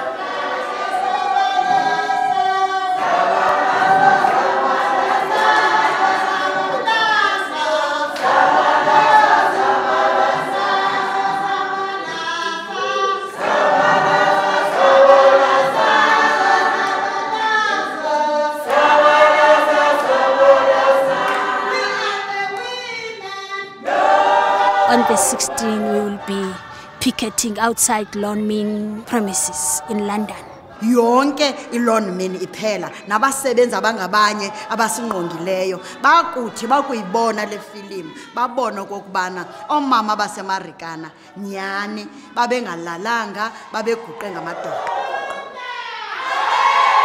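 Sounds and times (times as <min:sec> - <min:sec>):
women singing in harmony: 0:00.0 - 0:47.0.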